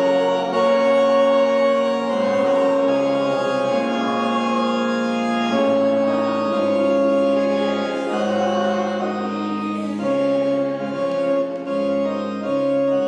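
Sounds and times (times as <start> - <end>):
organ playing hymn chords: 0.0 - 13.0.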